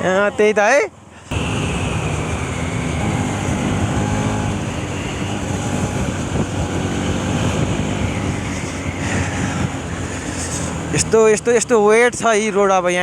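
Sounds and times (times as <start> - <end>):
rushing wind: 1.0 - 12.6
motorcycle engine running: 1.3 - 11.8.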